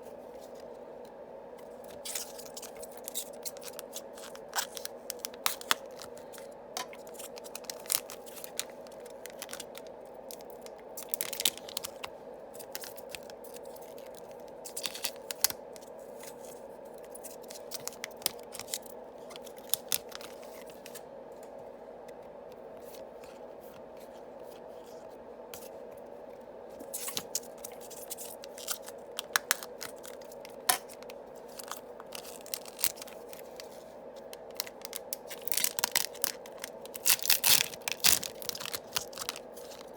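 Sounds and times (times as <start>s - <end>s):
foil packs crinkling: 1.9s - 21.0s, 26.8s - 39.9s.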